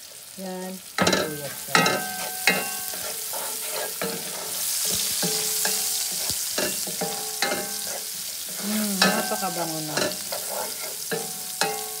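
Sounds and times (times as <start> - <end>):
onion sizzling in oil: 0.0 - 12.0
wooden spoon scraping a pan: 1.2 - 12.0.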